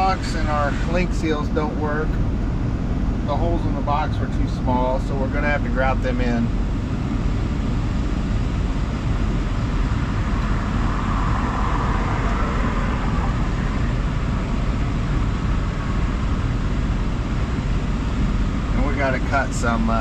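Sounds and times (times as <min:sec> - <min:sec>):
construction equipment engine rumble: 0:00.0 - 0:20.0.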